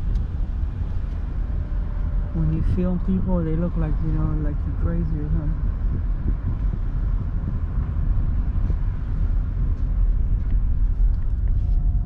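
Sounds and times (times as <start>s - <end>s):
small car driving slowly: 0.0s - 12.0s.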